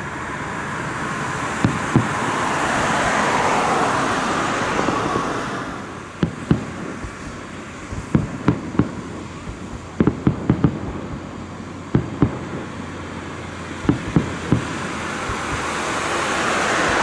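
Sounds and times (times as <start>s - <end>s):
background hiss: 0.0s - 17.0s
fireworks bangs: 0.0s - 17.0s.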